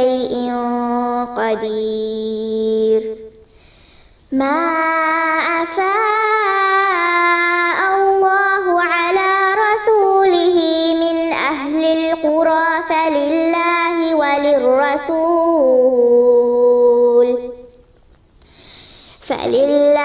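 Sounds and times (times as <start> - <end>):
girl chanting recitation: 0.0 - 3.4, 4.3 - 17.8, 19.2 - 20.0.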